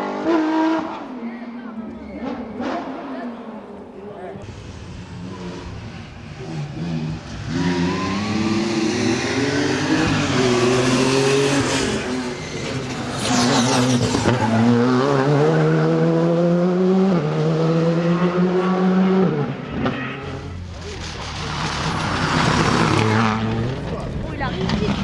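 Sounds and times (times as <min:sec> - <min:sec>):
rally car engine at full throttle: 0:00.0 - 0:25.0.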